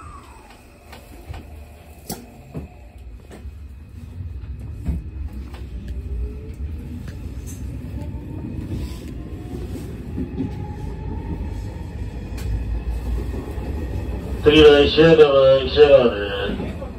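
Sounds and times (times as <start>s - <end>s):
train rumble from inside: 0.0s - 16.9s.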